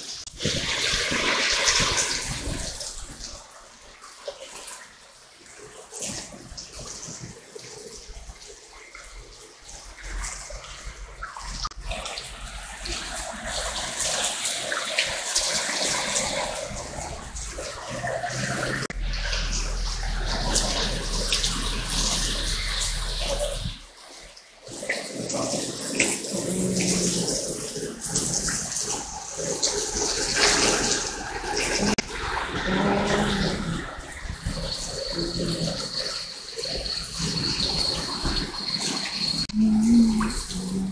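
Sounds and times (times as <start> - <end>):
rain splashing on wet ground: 0.0 - 40.9.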